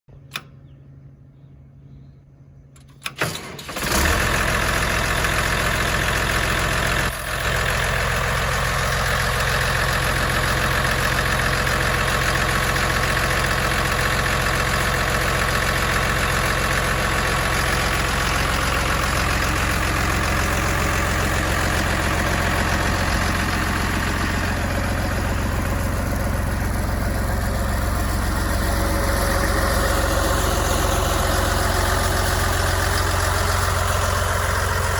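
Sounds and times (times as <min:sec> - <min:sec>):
pump engine starting and idling: 0:02.8 - 0:34.9.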